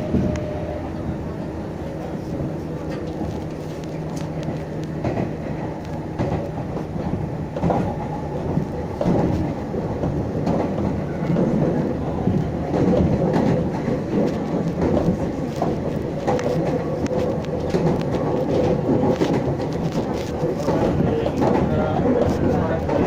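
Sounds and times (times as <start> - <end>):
electric train rumbling: 0.0 - 23.0
wheels clicking over rail joints: 1.9 - 23.0.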